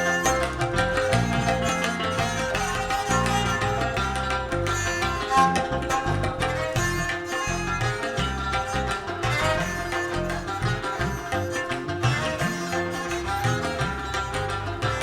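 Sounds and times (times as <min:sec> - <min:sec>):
hand drum rhythm: 0:00.0 - 0:15.0
plucked lute melody: 0:00.0 - 0:15.0.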